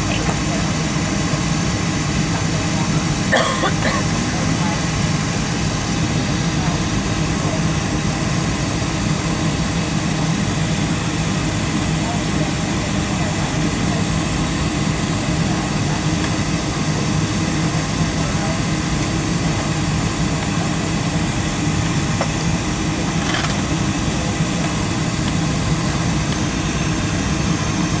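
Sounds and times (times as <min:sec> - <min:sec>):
airliner cabin air supply hum: 0:00.0 - 0:28.0.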